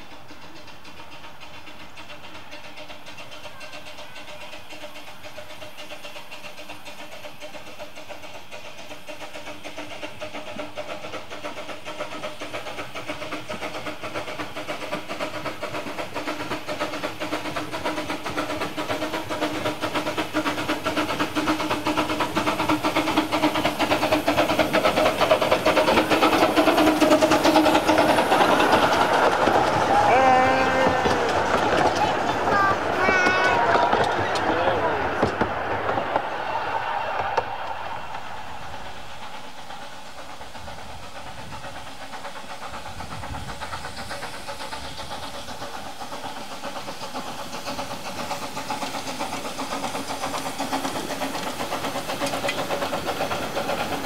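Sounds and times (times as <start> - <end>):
miniature steam locomotive passing: 0.0 - 54.0.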